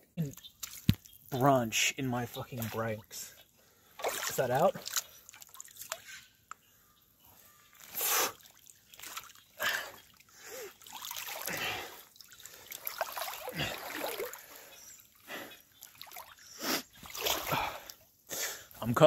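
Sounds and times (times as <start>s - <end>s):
water splashing and sloshing: 0.2s - 6.5s, 7.7s - 18.2s.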